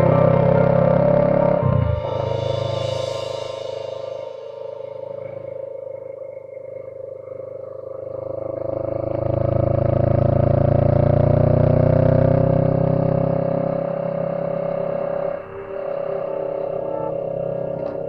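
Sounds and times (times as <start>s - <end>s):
vehicle engine: 0.0s - 3.5s, 6.6s - 18.0s.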